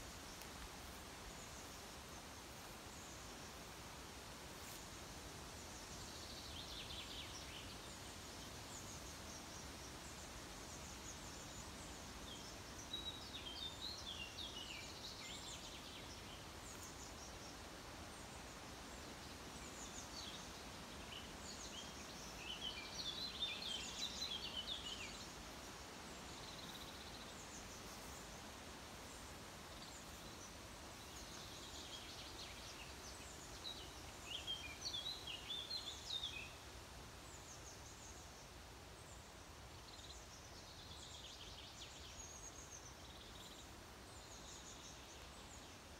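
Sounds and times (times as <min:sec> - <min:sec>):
faint hiss: 0:00.0 - 0:45.9
songbirds twittering: 0:04.6 - 0:45.9.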